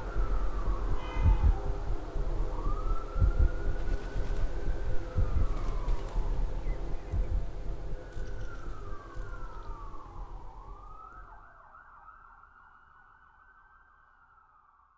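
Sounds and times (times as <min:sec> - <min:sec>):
low city rumble: 0:00.0 - 0:12.2
distant emergency siren: 0:00.0 - 0:14.9.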